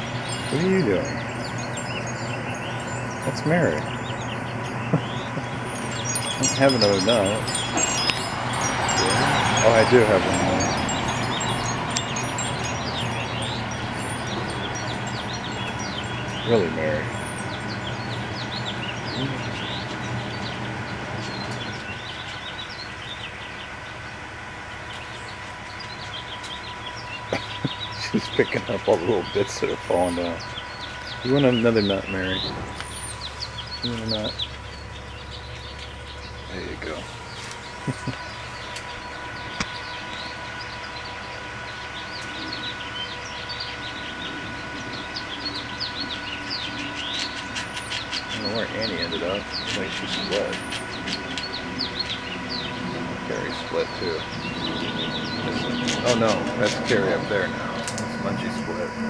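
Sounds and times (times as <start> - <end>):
constant whine: 0.0 - 59.0
distant machinery drone: 0.0 - 59.0
small birds chirping: 0.0 - 59.0
steady low hum: 0.0 - 59.0.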